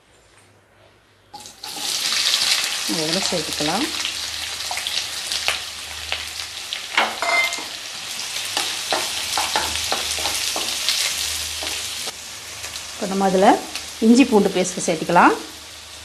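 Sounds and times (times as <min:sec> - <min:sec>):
onions sizzling in hot oil: 0:01.4 - 0:16.0.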